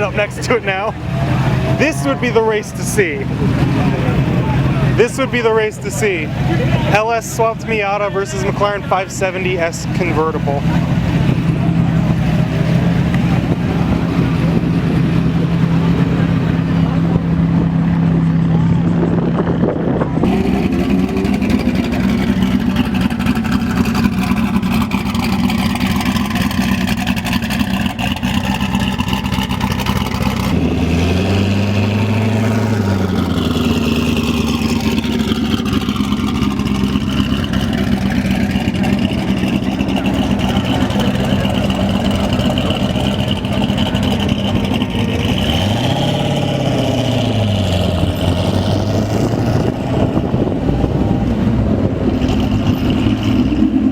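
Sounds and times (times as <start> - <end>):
car engine idling and revving: 0.0 - 53.9.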